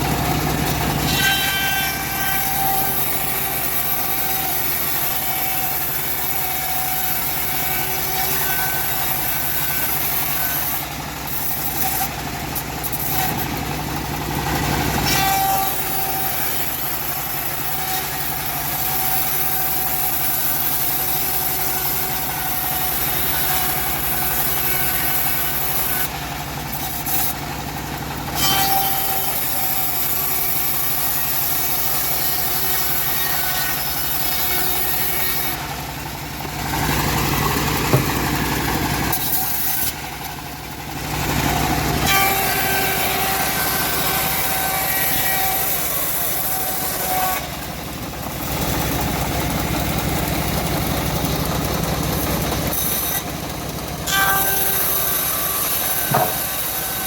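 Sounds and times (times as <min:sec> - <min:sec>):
bandsaw cutting logs: 0:00.0 - 0:57.0.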